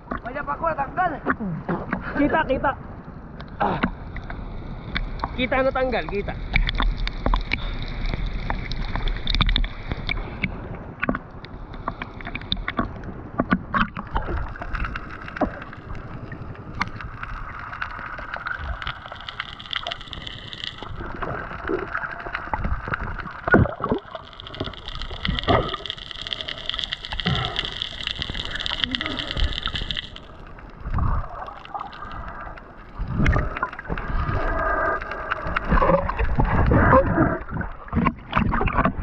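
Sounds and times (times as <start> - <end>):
water sloshing and gurgling: 0.0 - 39.0.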